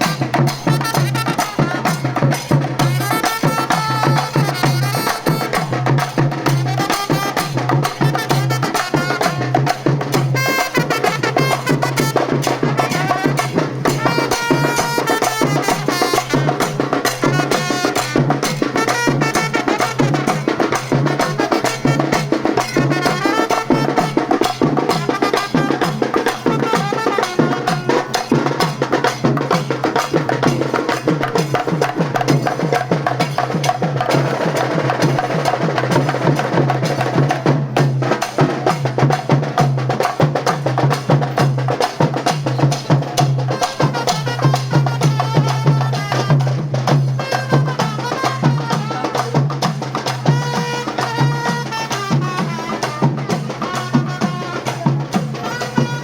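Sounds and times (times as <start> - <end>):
fast traditional drumming: 0.0 - 56.0.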